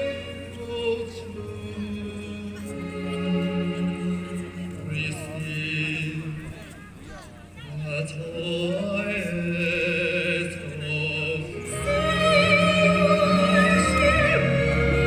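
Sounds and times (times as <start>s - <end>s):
orchestral music with held notes: 0.0s - 6.4s, 8.8s - 15.0s.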